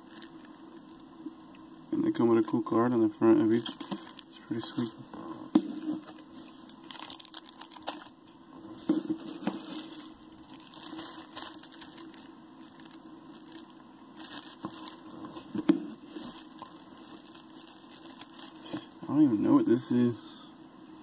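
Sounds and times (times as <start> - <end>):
packaging wrapping crinkling: 0.0 - 4.9, 6.1 - 8.2, 9.0 - 19.1.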